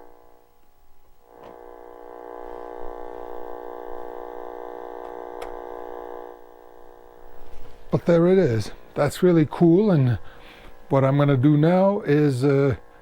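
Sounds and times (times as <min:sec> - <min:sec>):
electrical buzz from tv speaker: 0:00.0 - 0:13.0.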